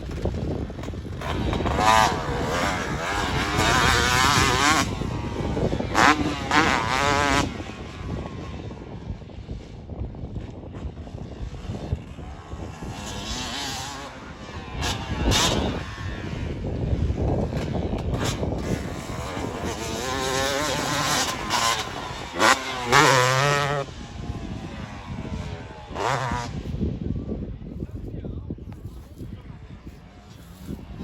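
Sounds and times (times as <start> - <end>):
motocross bikes revving past: 0.0 - 27.7, 29.4 - 31.0.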